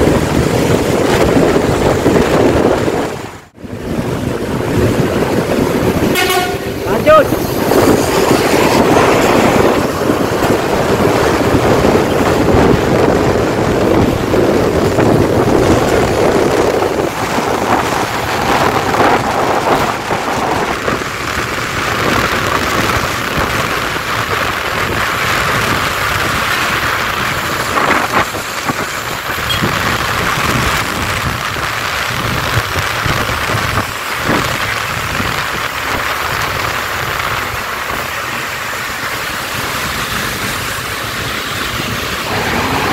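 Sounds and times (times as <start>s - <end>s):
rain: 0.0s - 42.9s
road traffic rumble: 0.0s - 42.9s.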